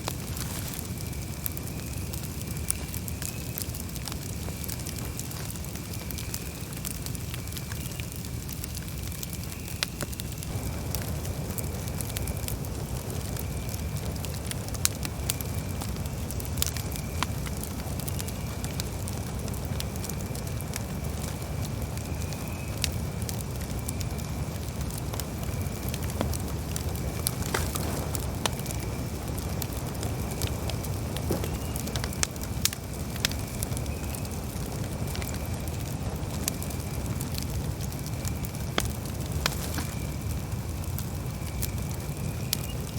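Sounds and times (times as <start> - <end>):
campfire crackling and popping: 0.0 - 42.9
low rush of flames: 0.0 - 42.9.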